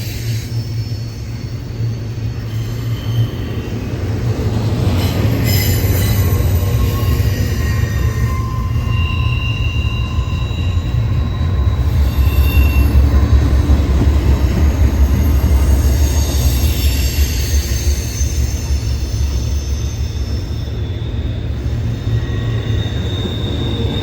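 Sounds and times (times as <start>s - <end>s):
wheel squeal: 0.0s - 4.0s, 4.9s - 24.0s
freight train rumbling past: 0.0s - 24.0s.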